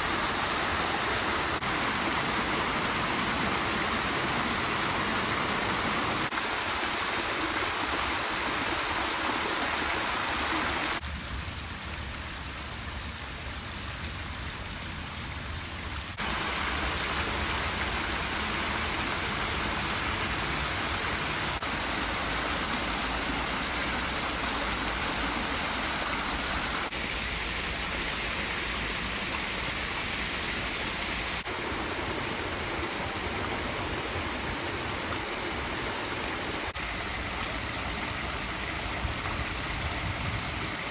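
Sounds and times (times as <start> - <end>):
stream rushing over rocks: 0.0 - 11.0, 16.1 - 40.9.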